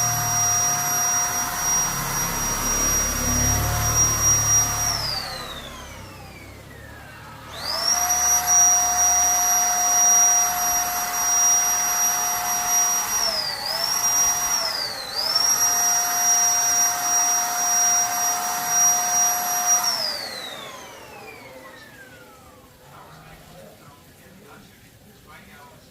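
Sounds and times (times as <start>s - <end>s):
paint spray gun motor whining: 0.0s - 22.8s.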